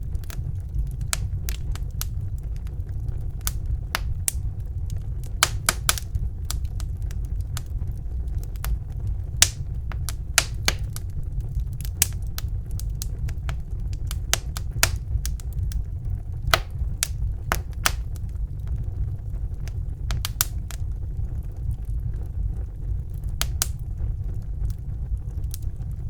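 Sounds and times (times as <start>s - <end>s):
fire crackles and pops: 0.0s - 26.0s
wood fire burning: 0.0s - 26.0s.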